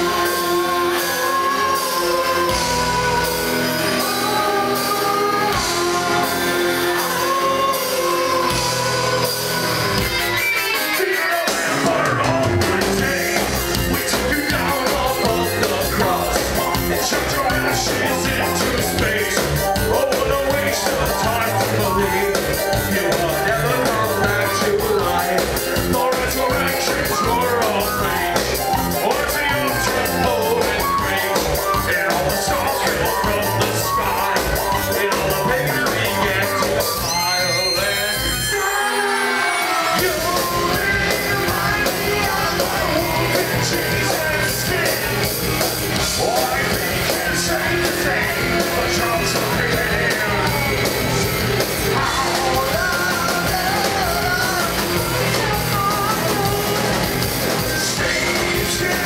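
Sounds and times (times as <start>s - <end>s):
drums: 0.0s - 59.0s
person singing: 0.0s - 59.0s.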